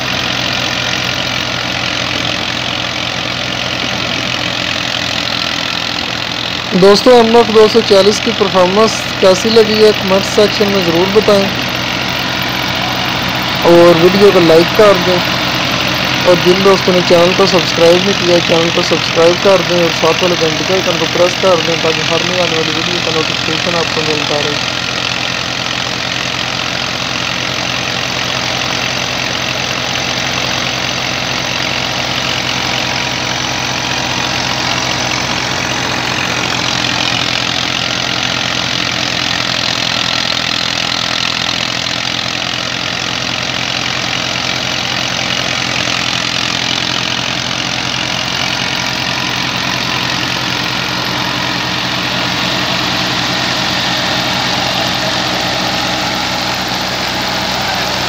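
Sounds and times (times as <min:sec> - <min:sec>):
thresher drum and fan whirring: 0:00.0 - 0:58.0
tractor diesel engine running: 0:00.0 - 0:58.0.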